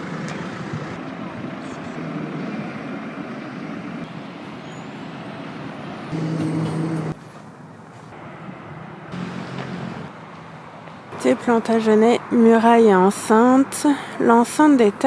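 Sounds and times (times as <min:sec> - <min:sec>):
large vehicle engine hum: 0:00.0 - 0:15.0
vehicles passing: 0:00.0 - 0:15.0.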